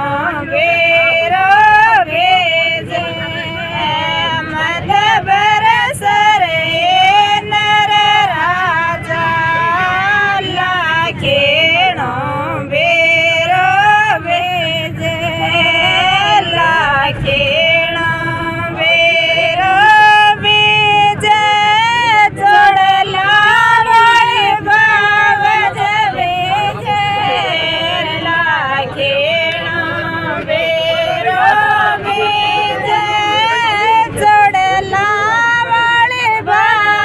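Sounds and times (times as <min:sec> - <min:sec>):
low steady rumble: 0:00.0 - 0:37.0
women singing folk song in unison: 0:00.0 - 0:37.0.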